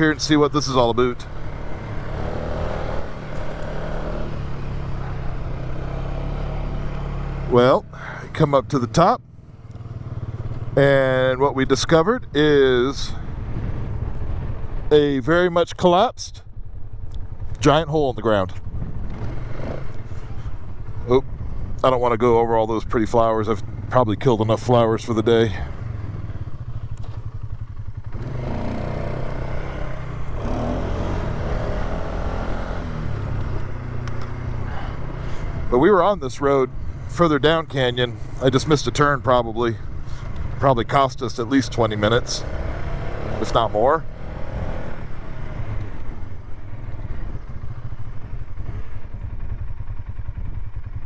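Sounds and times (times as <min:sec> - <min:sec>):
atv engine revving: 0:00.0 - 0:15.9, 0:17.0 - 0:51.0.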